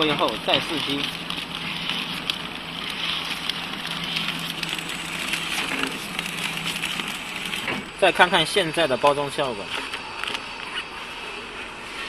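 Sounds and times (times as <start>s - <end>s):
packing machine whirring: 0.0s - 12.0s.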